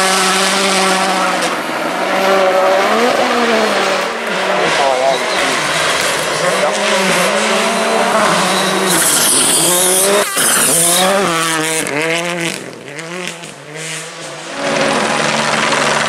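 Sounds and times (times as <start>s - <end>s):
gravel and tyre noise: 0.0s - 16.0s
rally car engine revving: 0.0s - 16.0s.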